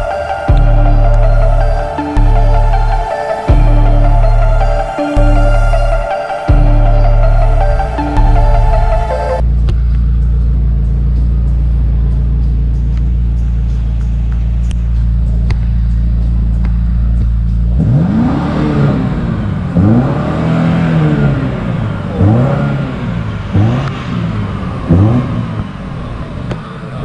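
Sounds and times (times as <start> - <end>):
car exhaust drone and revving: 0.0 - 27.0.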